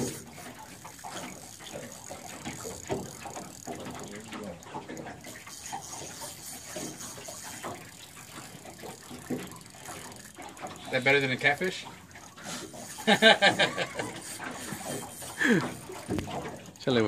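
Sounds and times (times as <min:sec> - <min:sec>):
fishing reel ticking: 0:00.0 - 0:17.0
water lapping against boat hull: 0:00.0 - 0:17.0.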